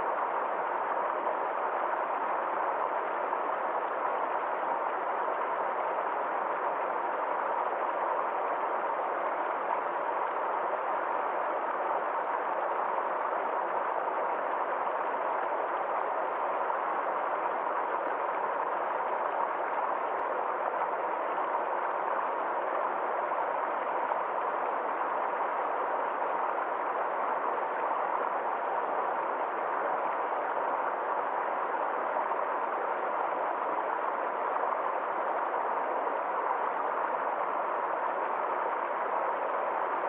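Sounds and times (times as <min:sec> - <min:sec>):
stream flowing: 0:00.0 - 0:40.0.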